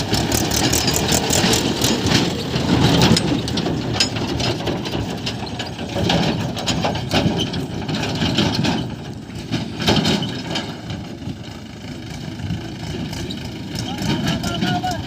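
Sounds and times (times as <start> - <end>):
heavy diesel machinery running: 0.0 - 15.0
irregular clanks: 0.2 - 15.0.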